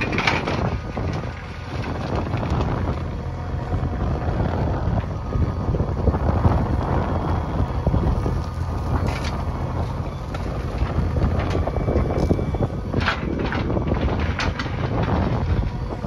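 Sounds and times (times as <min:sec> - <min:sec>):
diesel engine running: 0:00.0 - 0:16.0
wind buffeting microphone: 0:00.0 - 0:16.0.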